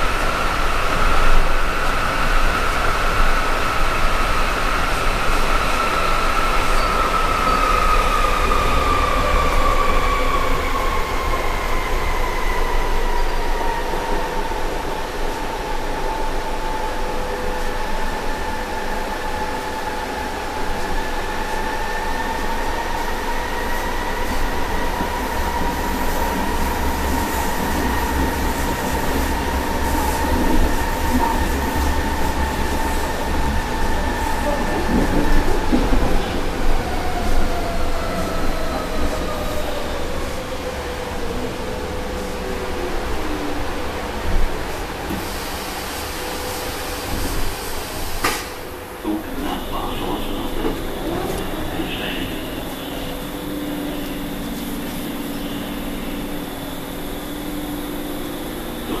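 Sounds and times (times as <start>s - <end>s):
subway motor whine: 0.0s - 59.0s
wheels rumbling on rail: 0.0s - 59.0s.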